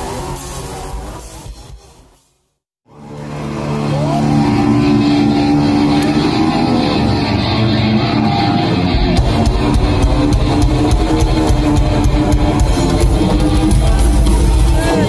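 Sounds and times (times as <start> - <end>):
heavy bass: 0.0 - 2.1, 2.8 - 15.0
drums: 0.0 - 2.6, 3.2 - 15.0
electric guitar: 2.9 - 15.0.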